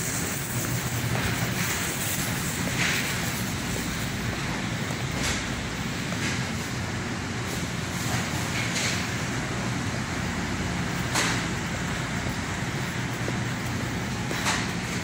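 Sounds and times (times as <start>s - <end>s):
hum and hiss: 0.0s - 15.0s.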